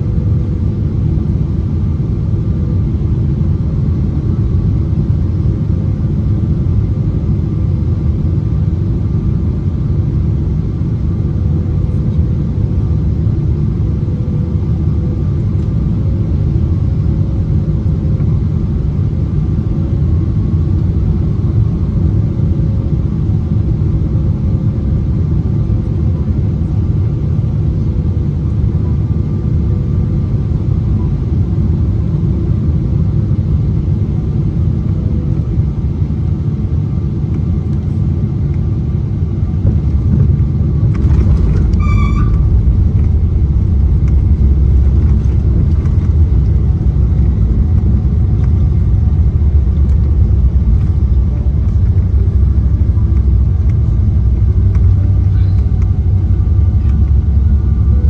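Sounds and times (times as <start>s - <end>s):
airplane cabin rumble: 0.0s - 58.0s
faint steady whine: 0.0s - 58.0s.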